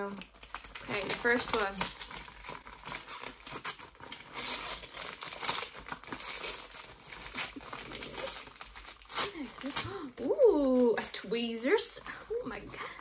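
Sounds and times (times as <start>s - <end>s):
wrapping paper crinkling and tearing: 0.0s - 13.0s.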